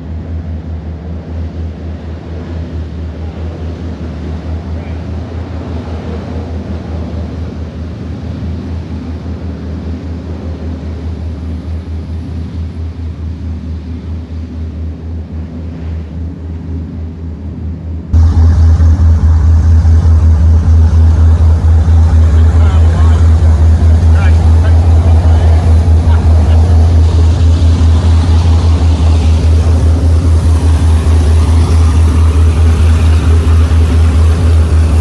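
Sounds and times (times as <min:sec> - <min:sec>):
boat engines exhaust rumble: 0:00.0 - 0:35.0
water and wind noise: 0:00.0 - 0:35.0.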